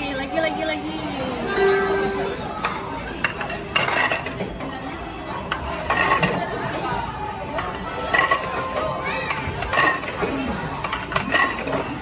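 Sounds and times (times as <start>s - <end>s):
restaurant chatter: 0.0s - 12.0s
ceramic plates clinking: 1.5s - 6.8s, 7.5s - 12.0s.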